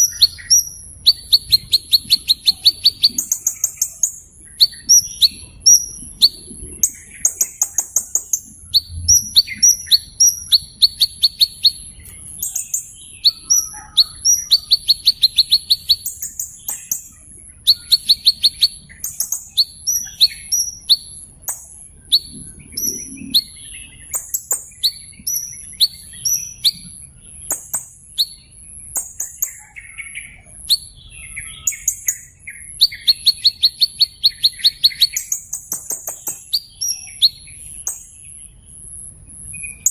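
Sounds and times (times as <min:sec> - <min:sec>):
small bird chirping and trilling: 0:00.0 - 0:39.9.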